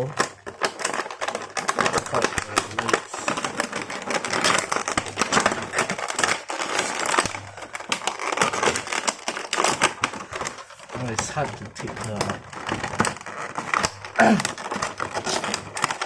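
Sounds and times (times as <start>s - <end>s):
plastic packaging crinkling: 0.0s - 16.0s
small irregular clicks: 0.0s - 16.0s.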